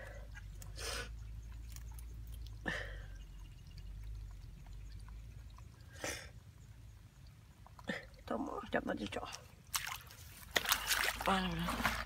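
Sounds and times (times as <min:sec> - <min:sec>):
low steady rumble: 0:00.0 - 0:09.7.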